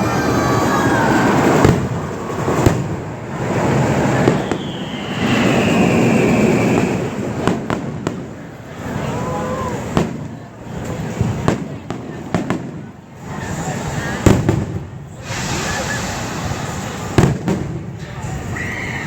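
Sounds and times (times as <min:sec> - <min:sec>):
fireworks sharp bangs: 0:00.0 - 0:09.1, 0:09.8 - 0:18.6
fireworks rumble and crackle: 0:00.0 - 0:19.0.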